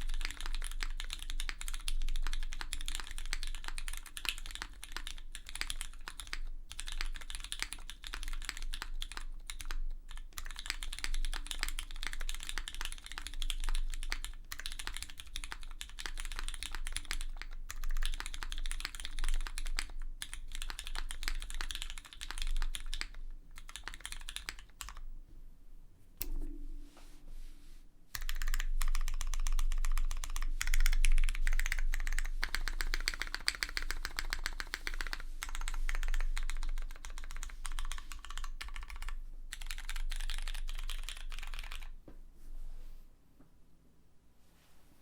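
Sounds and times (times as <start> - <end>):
mechanical keyboard typing: 0.0 - 25.0, 28.2 - 41.9.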